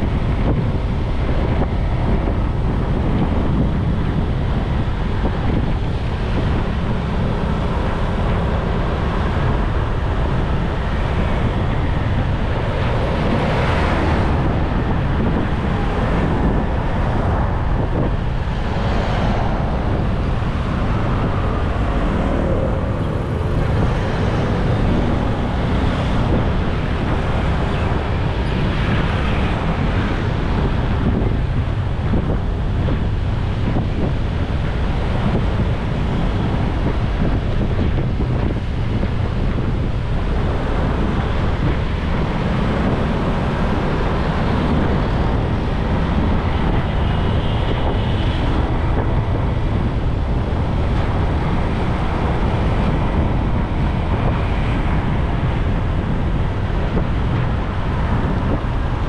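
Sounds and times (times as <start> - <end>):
road and traffic noise: 0.0 - 59.0
vehicles passing: 0.0 - 59.0
wind buffeting microphone: 0.0 - 59.0.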